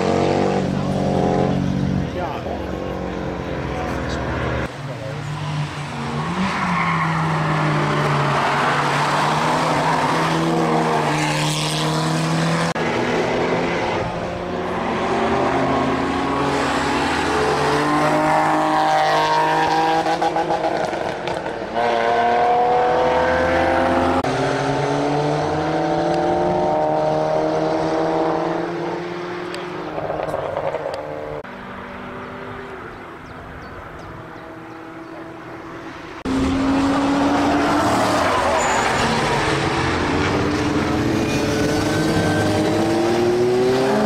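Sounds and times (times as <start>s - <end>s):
motorcycle engines accelerating: 0.0s - 44.0s.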